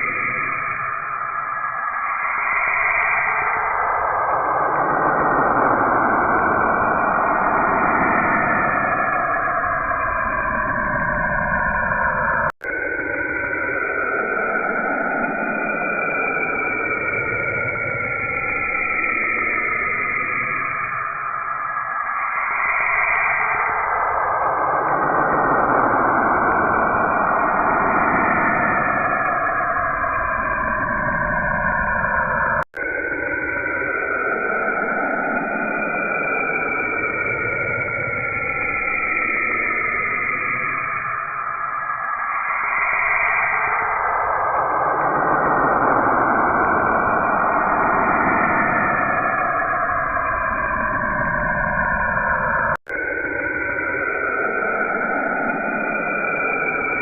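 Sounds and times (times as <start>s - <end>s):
steady rushing noise with tones: 0.0s - 57.0s.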